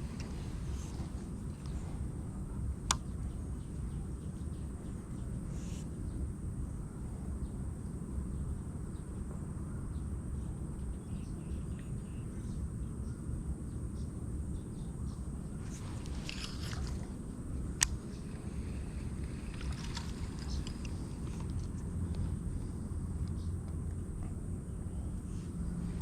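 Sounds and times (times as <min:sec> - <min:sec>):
outdoor background rumble: 0:00.0 - 0:26.0.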